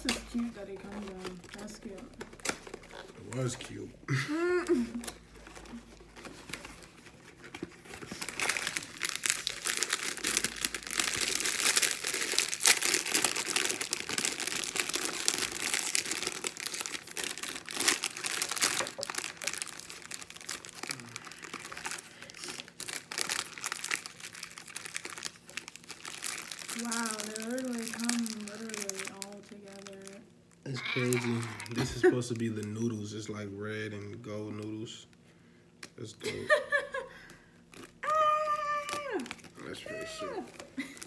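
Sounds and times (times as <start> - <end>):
plastic packets crinkling: 0.0 - 3.8, 4.7 - 33.4, 34.4 - 41.0.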